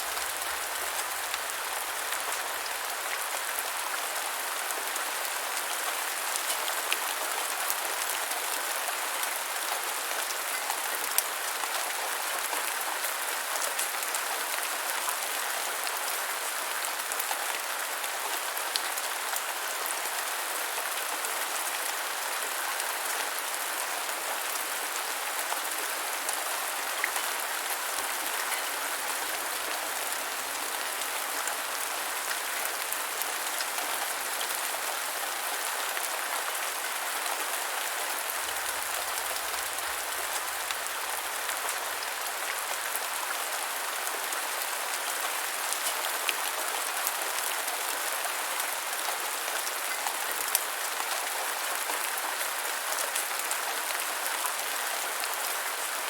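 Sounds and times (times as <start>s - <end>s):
rain falling on ground: 0.0s - 56.0s.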